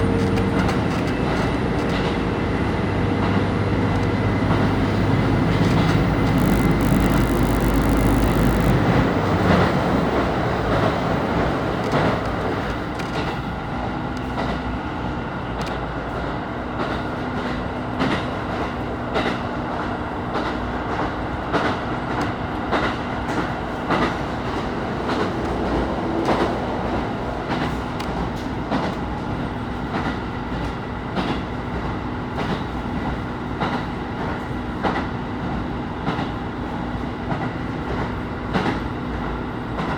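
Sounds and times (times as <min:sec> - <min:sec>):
railcar engine rumble: 0:00.0 - 0:39.9.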